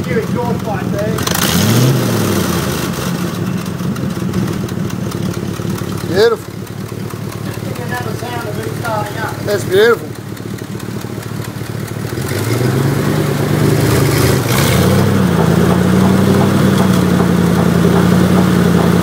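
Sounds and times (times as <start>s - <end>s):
compressor engine running: 0.0s - 19.0s.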